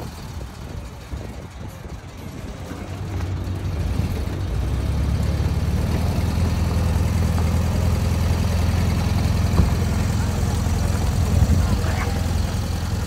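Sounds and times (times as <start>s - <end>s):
car engine low drone: 0.0s - 13.0s.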